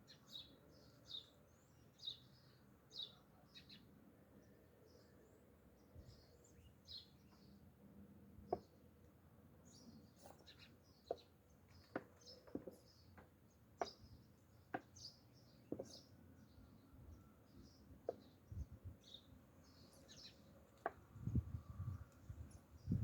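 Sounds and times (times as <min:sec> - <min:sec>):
faint small birds chirping: 0:00.0 - 0:23.0.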